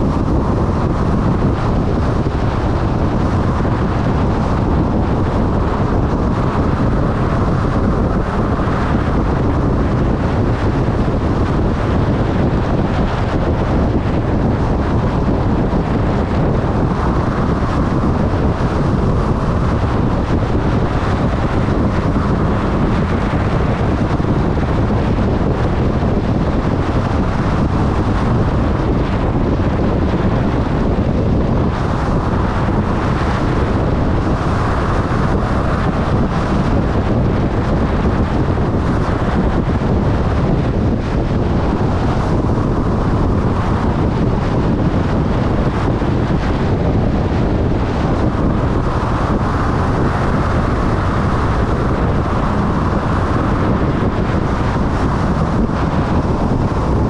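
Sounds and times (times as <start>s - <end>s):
motorcycle running: 0.0s - 57.0s
wind buffeting microphone: 0.0s - 57.0s.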